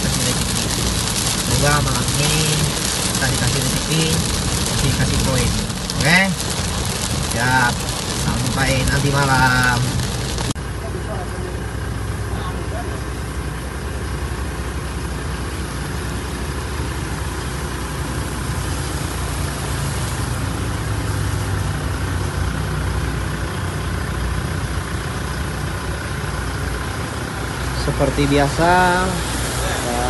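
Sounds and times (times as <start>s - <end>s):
rain hissing: 0.0s - 10.6s, 13.0s - 30.0s
truck engine idling: 0.0s - 30.0s.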